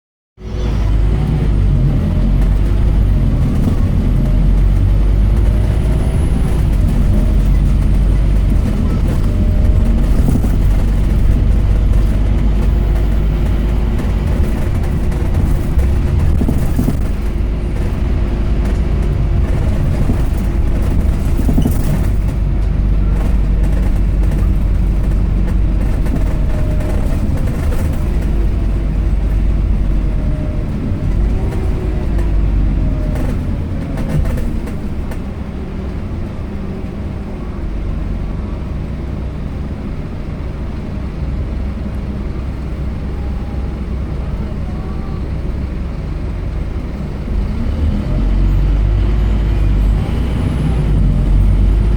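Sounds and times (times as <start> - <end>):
bus engine humming: 0.4 - 51.9.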